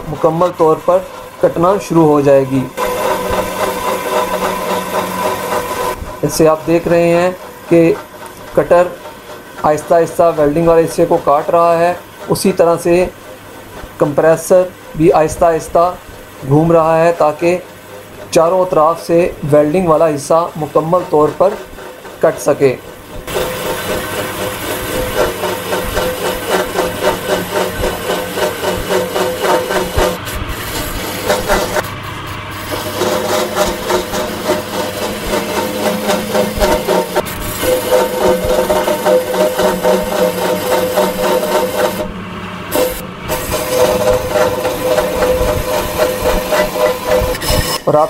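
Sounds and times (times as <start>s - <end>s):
pulsing motor hum: 0.0s - 47.8s
blade scraping steel: 0.0s - 48.0s.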